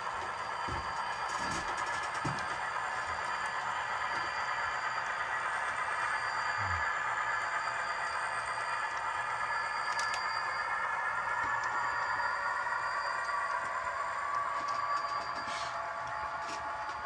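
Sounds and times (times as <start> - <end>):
model train humming: 0.0 - 17.0.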